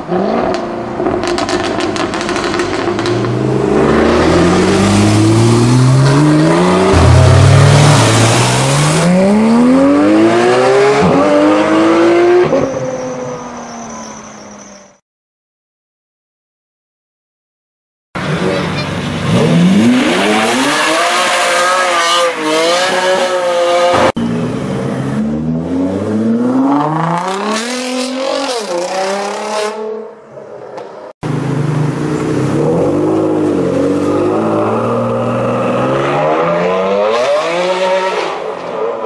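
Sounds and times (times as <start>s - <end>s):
car engines revving hard: 0.0s - 12.7s, 18.2s - 30.0s, 31.2s - 39.0s.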